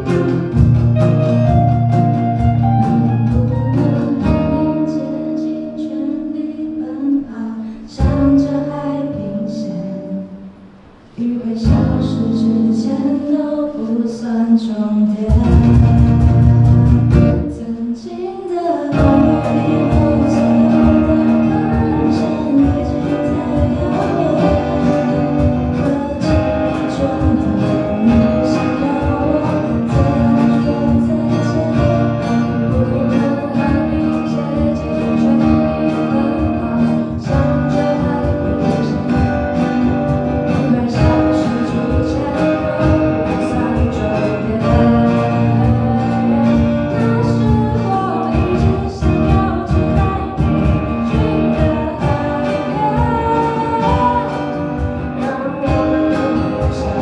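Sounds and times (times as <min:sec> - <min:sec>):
live band with guitars: 0:00.0 - 0:57.0
person singing: 0:00.0 - 0:57.0.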